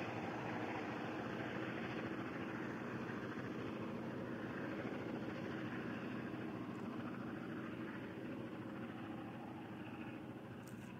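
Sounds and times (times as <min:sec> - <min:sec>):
distant diesel locomotives running: 0:00.0 - 0:10.9.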